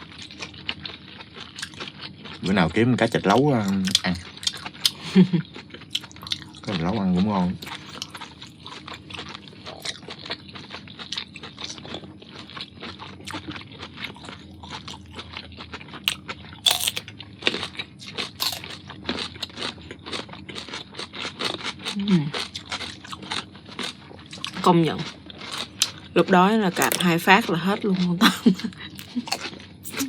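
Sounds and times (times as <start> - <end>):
shell cracking and chewing: 0.0 - 28.0, 28.7 - 30.0.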